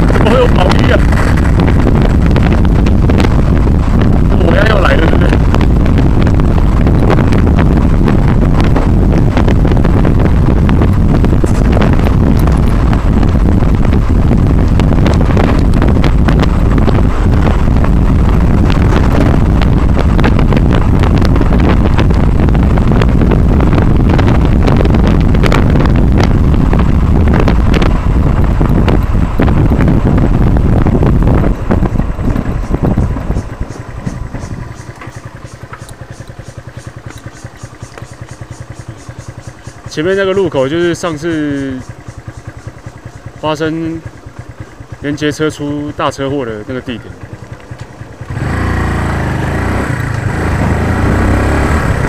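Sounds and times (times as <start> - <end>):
motorcycle engine running: 0.0 - 52.0
road noise: 0.0 - 52.0
wind buffeting microphone: 0.0 - 52.0.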